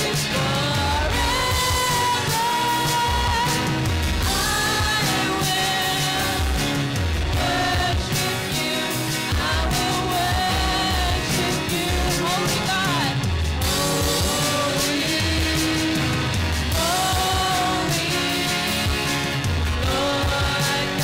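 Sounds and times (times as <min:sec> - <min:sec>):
keyboards: 0:00.0 - 0:21.0
singers holding long notes in unison: 0:00.0 - 0:21.0
steady drum beat: 0:00.0 - 0:21.0.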